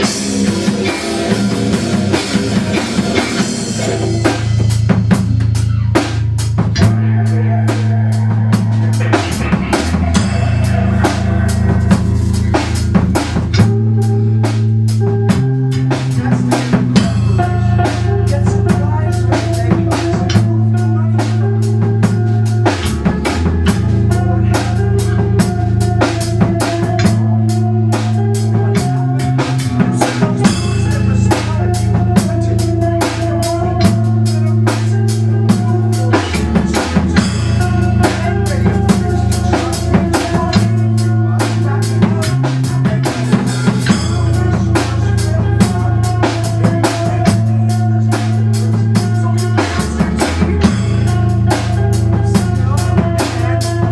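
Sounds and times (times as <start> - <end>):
bass line: 0.0 - 53.9
drum kit beat: 0.0 - 53.9.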